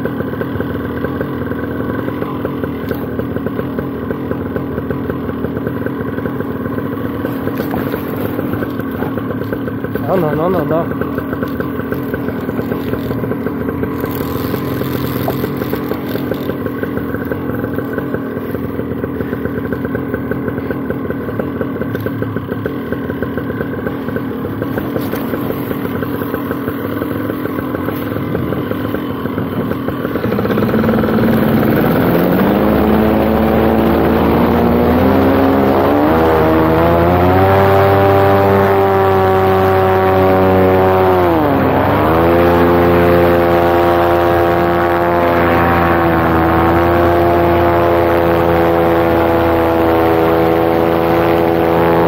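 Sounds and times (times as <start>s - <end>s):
paramotor engine and propeller: 0.0s - 52.0s.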